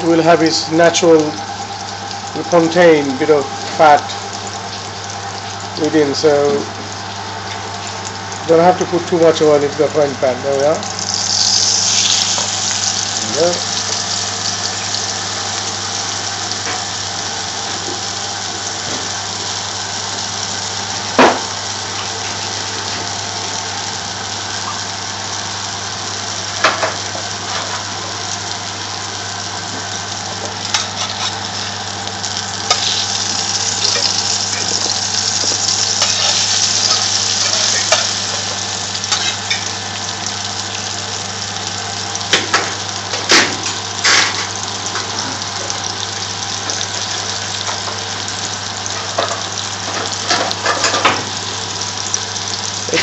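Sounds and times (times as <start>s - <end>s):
patties sizzling in a frying pan: 0.0s - 53.0s.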